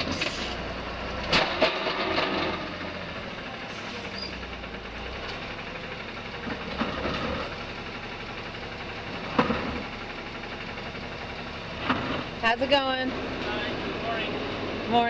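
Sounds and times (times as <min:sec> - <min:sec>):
garbage truck engine idling: 0:00.0 - 0:15.0.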